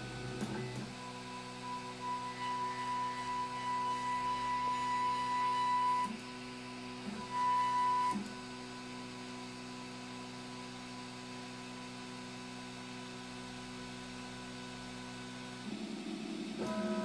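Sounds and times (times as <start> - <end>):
three d printer fans humming: 0.0 - 17.0.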